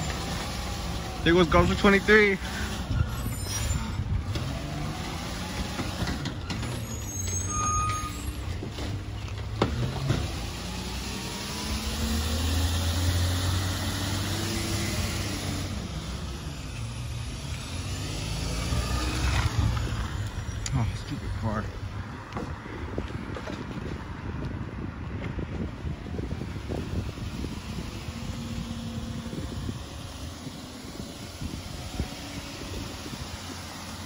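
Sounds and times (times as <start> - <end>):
garbage truck diesel engine: 0.0 - 24.4, 25.1 - 34.0.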